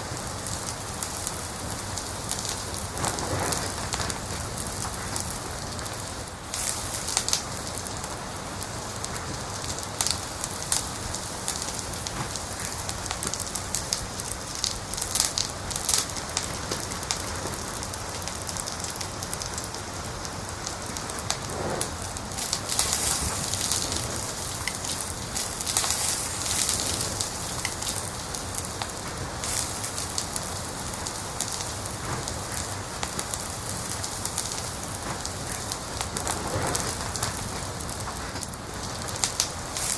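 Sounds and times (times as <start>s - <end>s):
fire hissing: 0.0s - 39.9s
fire popping and snapping: 0.0s - 39.9s.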